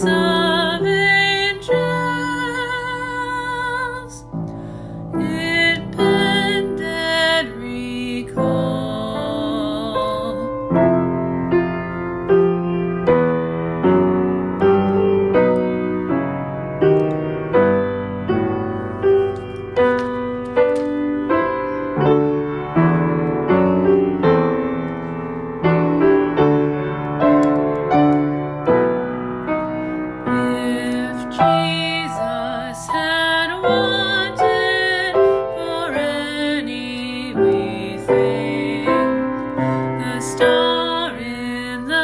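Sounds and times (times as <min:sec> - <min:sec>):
slow gentle piano chords: 0:00.0 - 0:42.0.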